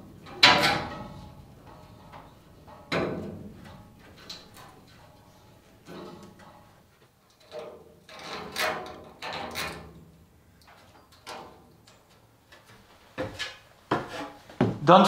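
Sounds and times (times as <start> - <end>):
scrapes and knocks of handling: 0.0 - 14.8.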